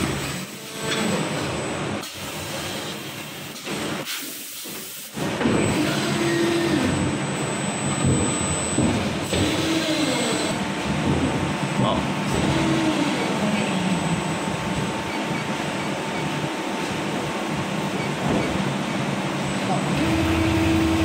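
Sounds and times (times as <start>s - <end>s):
machine hydraulics running: 0.0s - 21.0s.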